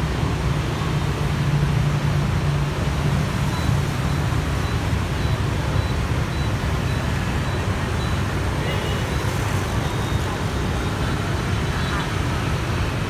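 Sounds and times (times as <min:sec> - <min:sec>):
street traffic engine hum: 0:00.0 - 0:13.0.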